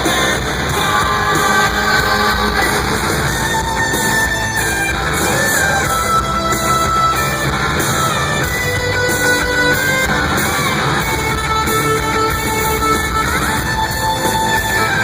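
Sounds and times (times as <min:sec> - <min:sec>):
bass and drums: 0:00.0 - 0:15.0
electric guitar with pitch bends: 0:00.0 - 0:15.0.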